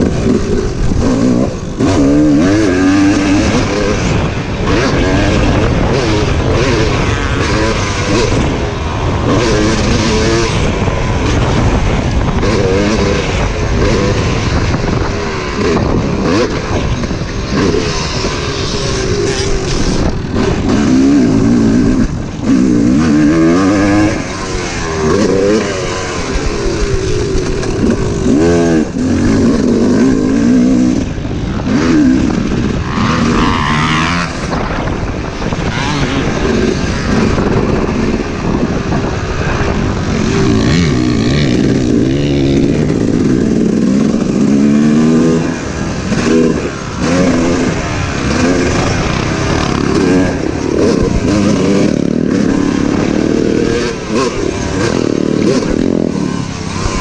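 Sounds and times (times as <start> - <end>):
motocross bike engine revving: 0.0 - 57.0
wind buffeting microphone: 0.0 - 57.0.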